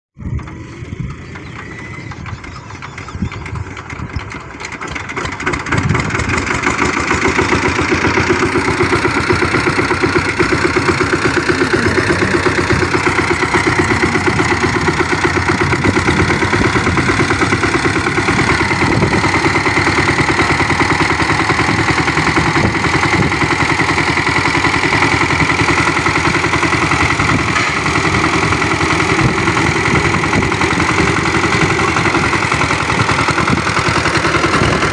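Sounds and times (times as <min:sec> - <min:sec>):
power tiller engine running: 0:00.2 - 0:34.9.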